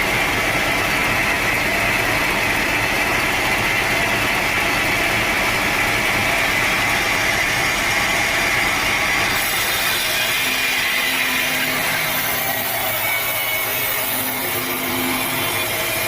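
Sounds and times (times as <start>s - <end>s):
sawmill saw cutting log: 0.0s - 16.0s.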